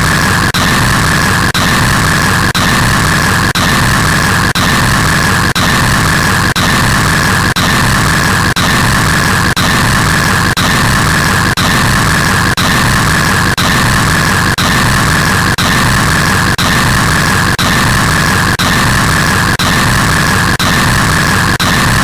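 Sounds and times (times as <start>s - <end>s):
harsh white-noise static: 0.0s - 22.0s.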